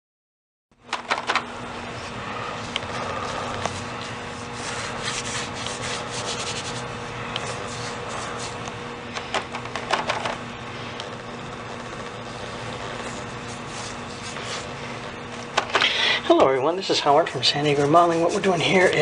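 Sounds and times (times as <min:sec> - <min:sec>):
faint steady hum: 0:00.8 - 0:19.0.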